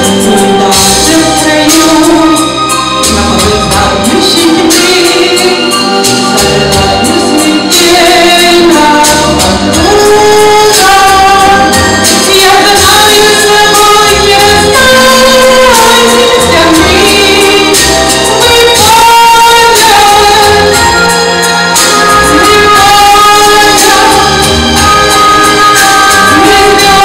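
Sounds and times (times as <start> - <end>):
woman singing slow song: 0.0 - 21.2, 22.1 - 24.5, 26.0 - 27.0
instrumental accompaniment: 0.0 - 27.0.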